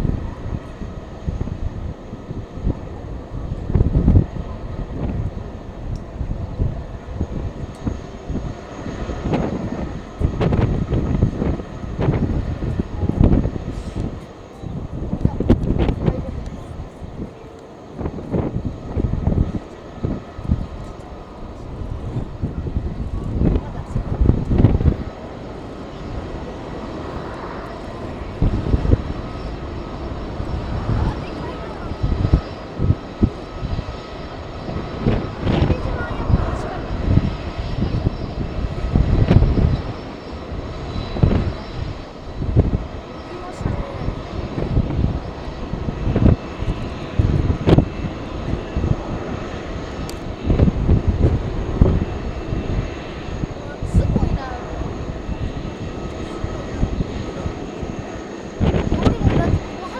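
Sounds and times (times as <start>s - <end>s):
jet engines roaring: 0.0s - 59.9s
wind buffeting microphone: 0.0s - 59.9s.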